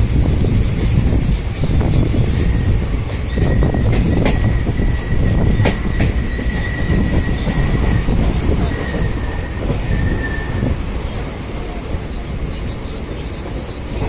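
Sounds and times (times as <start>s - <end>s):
train rumbling on rails: 0.0s - 14.0s
high squeal: 1.6s - 14.0s.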